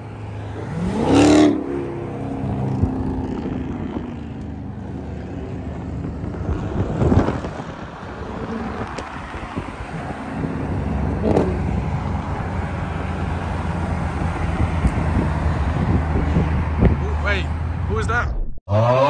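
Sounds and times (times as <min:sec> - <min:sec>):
car engines droning: 0:00.0 - 0:18.3.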